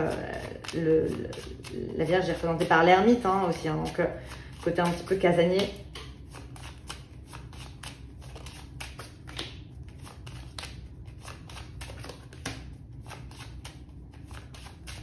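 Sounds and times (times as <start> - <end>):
cards being shuffled: 0.0 - 15.0.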